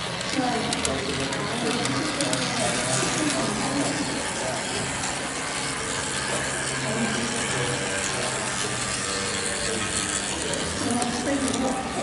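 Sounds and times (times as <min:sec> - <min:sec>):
low motor hum: 0:00.0 - 0:12.0
model trains clattering: 0:00.0 - 0:12.0
faint murmur of voices: 0:00.2 - 0:12.0.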